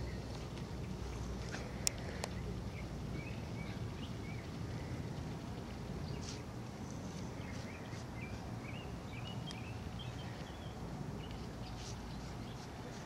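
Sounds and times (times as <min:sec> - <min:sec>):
low background rumble: 0:00.0 - 0:13.0
small bird chirping: 0:01.8 - 0:13.0.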